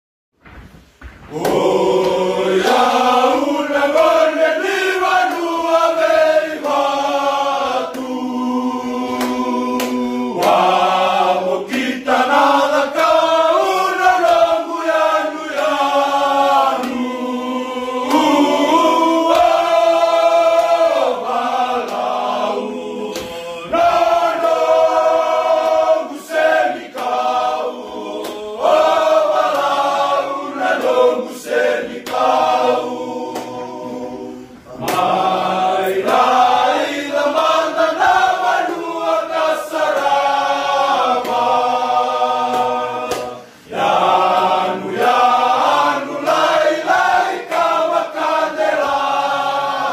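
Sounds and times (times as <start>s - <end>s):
men singing in harmony: 1.3s - 49.9s.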